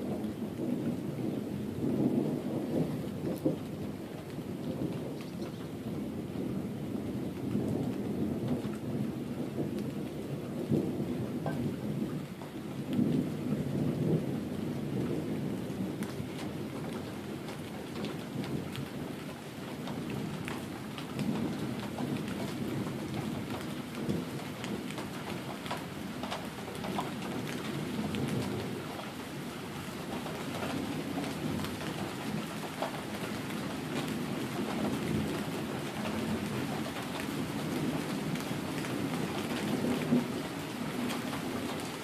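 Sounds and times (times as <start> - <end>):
distant thunder rumble: 0.0 - 42.0
raindrops ticking: 0.0 - 42.0.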